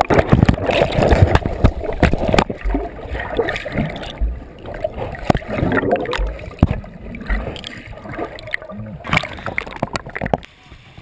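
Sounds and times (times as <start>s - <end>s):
sharp knocks and low thumps: 0.0s - 10.4s
muffled water churning underwater: 0.0s - 11.0s.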